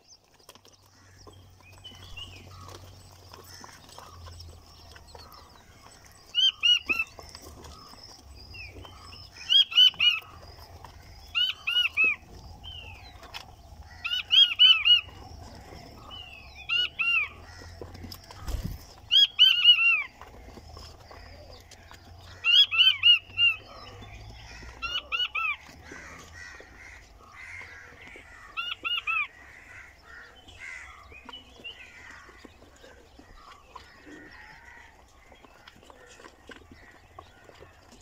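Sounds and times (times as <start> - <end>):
quails piping calls: 0.0 - 38.0.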